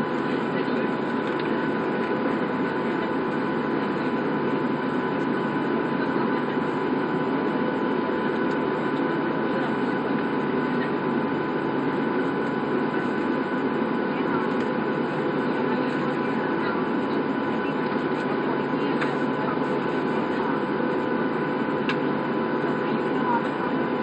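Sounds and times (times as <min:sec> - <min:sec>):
aircraft cabin engine hum: 0:00.0 - 0:24.0
thin steady whine: 0:00.0 - 0:24.0.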